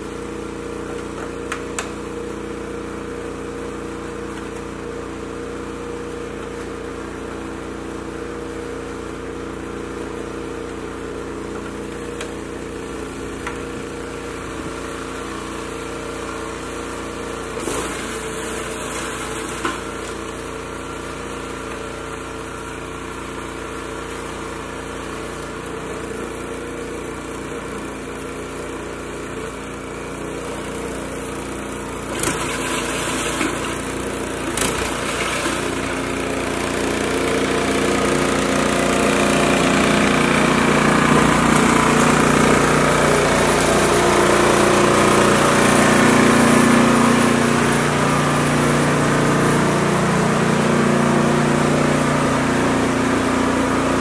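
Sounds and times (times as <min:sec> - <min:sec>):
snow blower engine running: 0:00.0 - 0:54.0.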